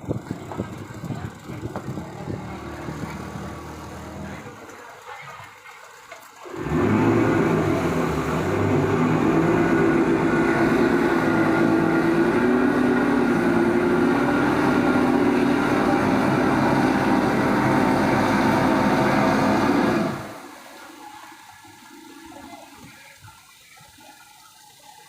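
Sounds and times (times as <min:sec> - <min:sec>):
boat engines droning: 0:00.0 - 0:25.0.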